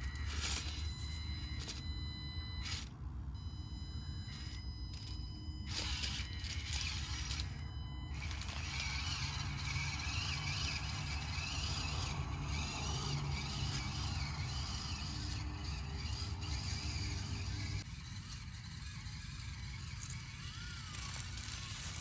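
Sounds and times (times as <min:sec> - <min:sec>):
small electric motor whirring: 0:00.0 - 0:22.0.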